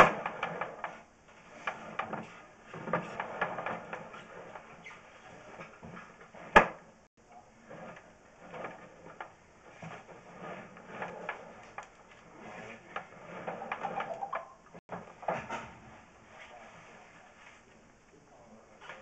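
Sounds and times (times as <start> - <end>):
cable scraping and clattering: 0.0 - 6.8, 7.5 - 17.6.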